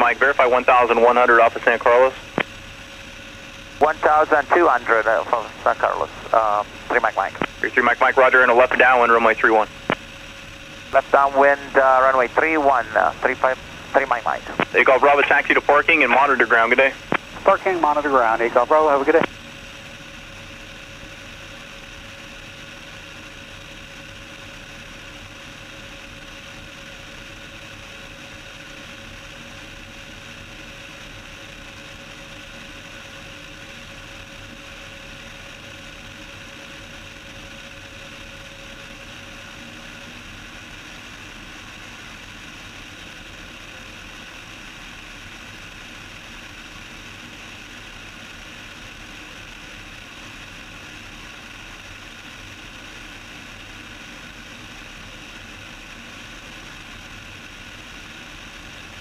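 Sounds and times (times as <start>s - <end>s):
propeller plane engine drone: 0.0s - 59.0s.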